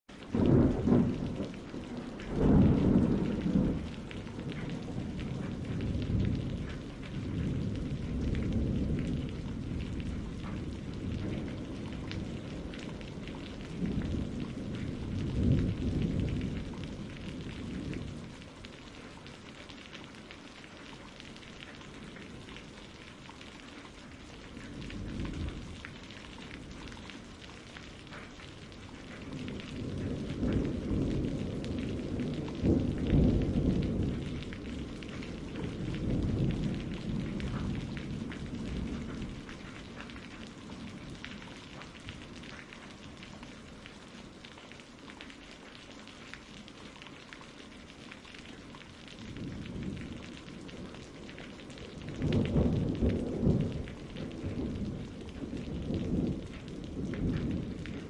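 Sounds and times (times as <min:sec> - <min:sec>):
steady rain: 0:00.0 - 0:58.0
rolling thunder: 0:00.2 - 0:18.6, 0:24.3 - 0:44.0, 0:49.2 - 0:58.0.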